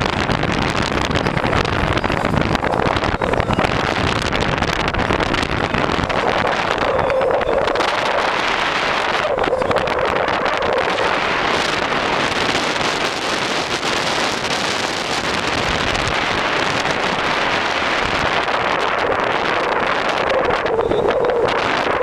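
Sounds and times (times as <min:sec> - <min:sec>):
car road and wind noise: 0:00.0 - 0:22.0
wind buffeting microphone: 0:00.0 - 0:22.0.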